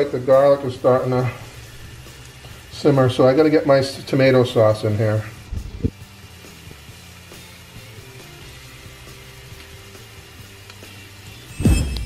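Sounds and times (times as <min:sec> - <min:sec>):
garlic sizzling in oil: 0:00.0 - 0:12.0
quiet background music: 0:00.0 - 0:12.0.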